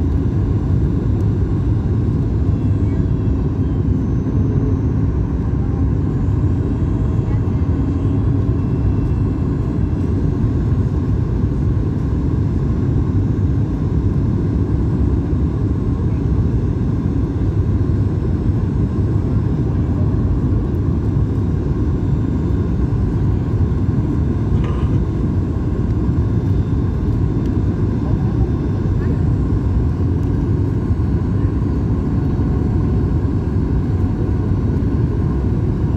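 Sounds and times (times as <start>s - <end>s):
airliner cabin rumble: 0.0s - 35.9s.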